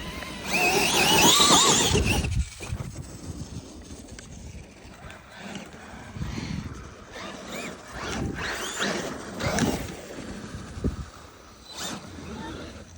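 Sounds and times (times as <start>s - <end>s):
electric motors whining: 0.0s - 12.9s.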